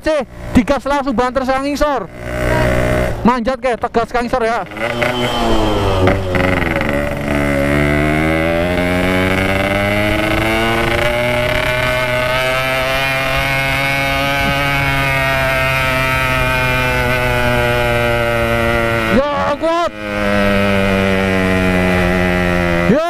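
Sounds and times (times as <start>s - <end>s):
two-stroke motorcycle engine pulling: 0.0s - 23.0s.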